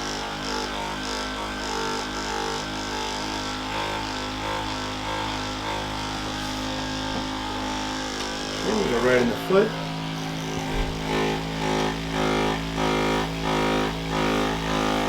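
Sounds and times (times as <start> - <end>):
electric massager motor drone: 0.0 - 15.0.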